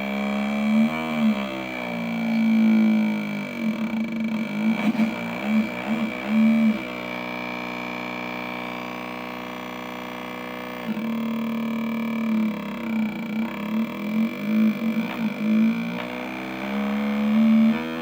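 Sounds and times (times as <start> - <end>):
electronic buzzing engine imitation: 0.0 - 18.0.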